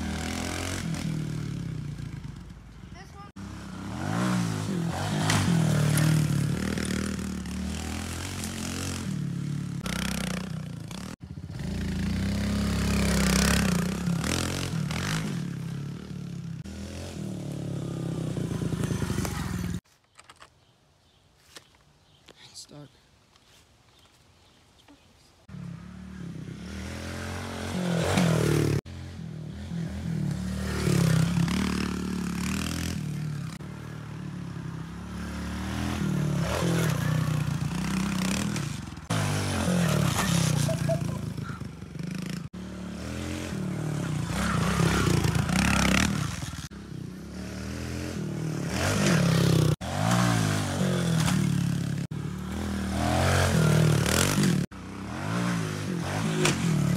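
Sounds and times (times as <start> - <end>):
motorcycle engine revving: 0.0 - 19.8, 25.5 - 56.9.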